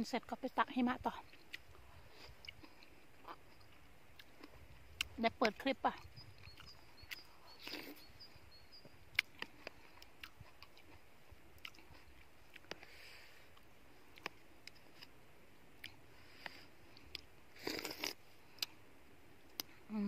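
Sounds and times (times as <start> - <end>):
quiet chewing: 1.1 - 15.2, 15.8 - 18.8.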